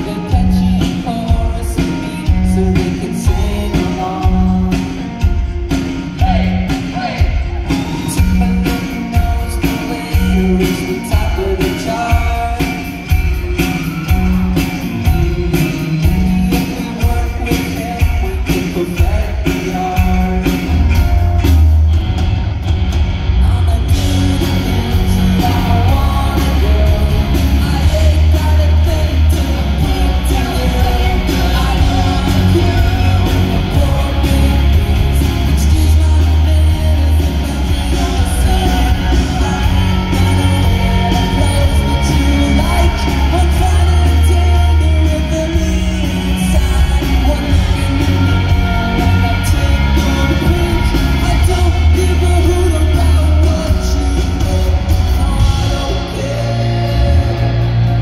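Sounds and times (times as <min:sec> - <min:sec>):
person singing lead vocal: 0:00.0 - 0:21.5, 0:23.2 - 0:58.0
live rock band: 0:00.0 - 0:58.0.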